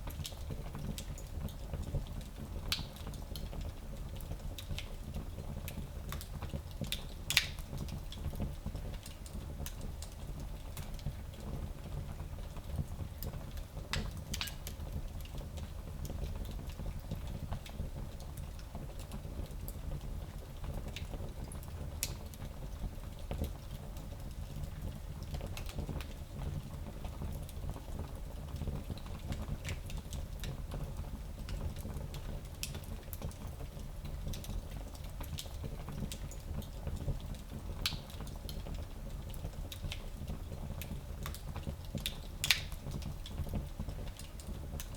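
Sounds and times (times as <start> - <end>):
fire crackling and popping: 0.0 - 12.0, 12.6 - 44.9.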